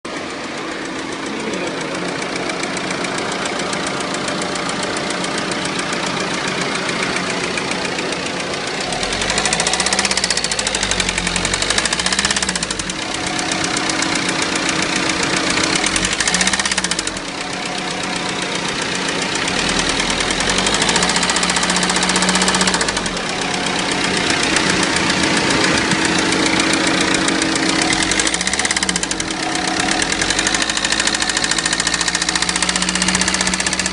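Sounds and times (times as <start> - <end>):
diesel engine revving: 0.1 - 33.9
engine knocking: 0.1 - 33.9.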